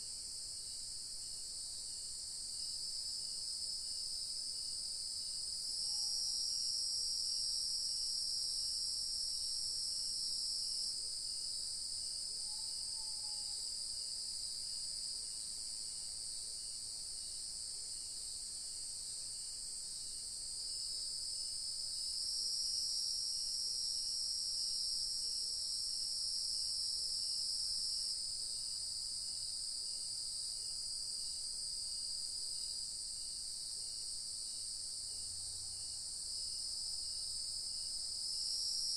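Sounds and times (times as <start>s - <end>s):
chorus of crickets and insects: 0.0s - 38.9s.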